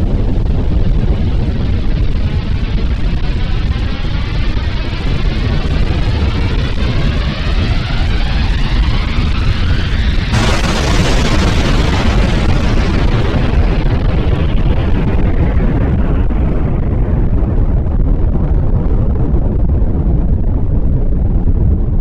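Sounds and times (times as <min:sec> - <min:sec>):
deep rumbling roar with rising whines: 0:00.0 - 0:22.0.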